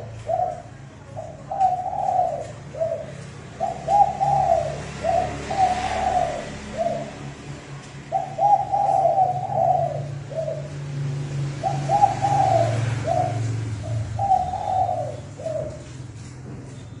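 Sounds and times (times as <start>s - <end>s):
dove cooing: 0.0s - 16.3s.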